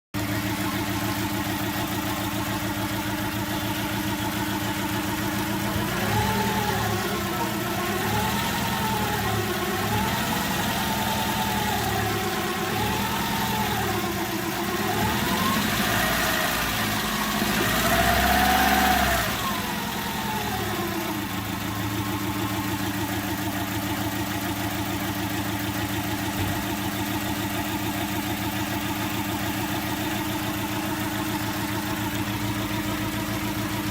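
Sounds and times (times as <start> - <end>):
misfiring car engine revving: 0.2 - 33.9.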